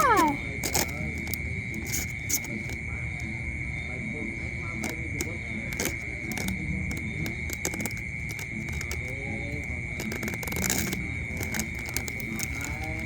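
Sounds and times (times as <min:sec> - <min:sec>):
faint background voices: 0:00.0 - 0:13.0.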